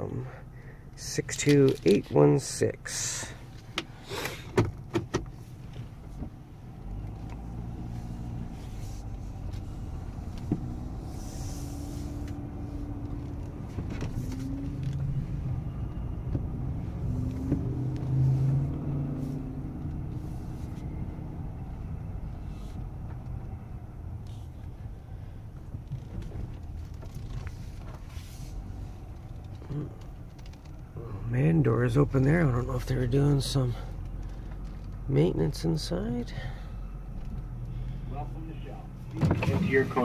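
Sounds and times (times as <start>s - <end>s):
car engine hum and rumble: 0.0s - 40.0s.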